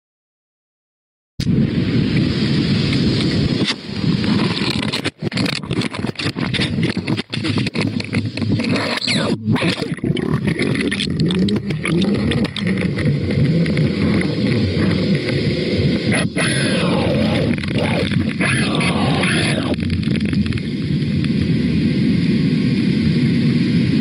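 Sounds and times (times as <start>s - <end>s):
rushing wind and water: 1.4s - 24.0s.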